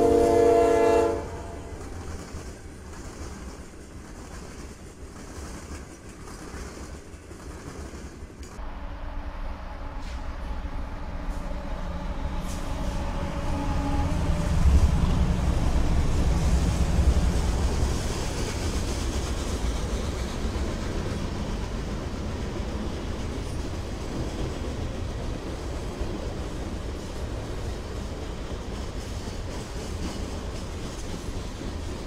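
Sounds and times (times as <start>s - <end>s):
diesel locomotive engines passing: 0.0s - 32.0s
freight cars rumbling on rails: 0.0s - 32.0s.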